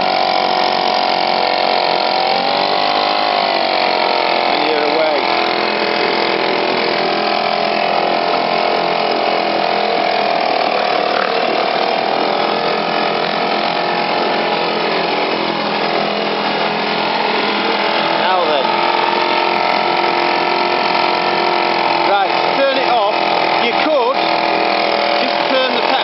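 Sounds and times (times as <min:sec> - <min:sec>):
two-stroke outboard motor running: 0:00.0 - 0:26.0.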